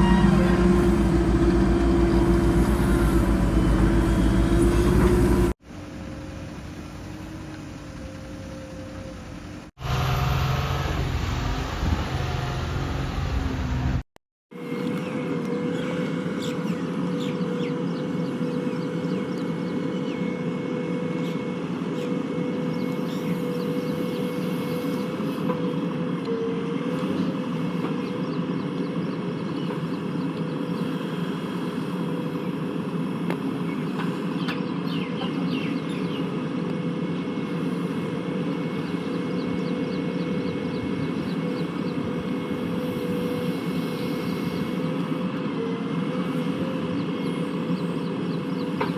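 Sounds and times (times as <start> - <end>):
diesel engine running with whine: 0.0 - 48.9.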